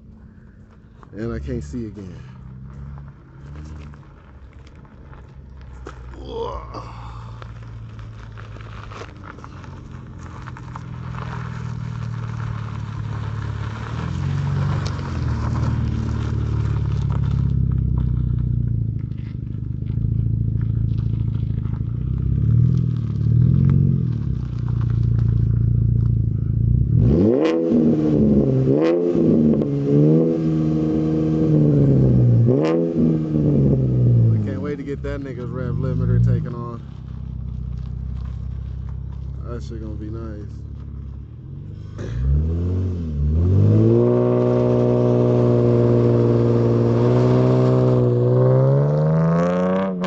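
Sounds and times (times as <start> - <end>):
car engine revving: 1.2 - 50.0.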